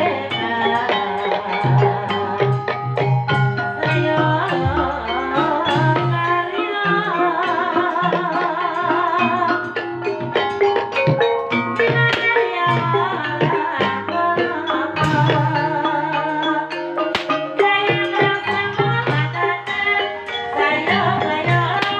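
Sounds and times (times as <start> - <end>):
struck metallophones: 0.0 - 21.9
wavering vibrato melodic line: 0.0 - 21.9.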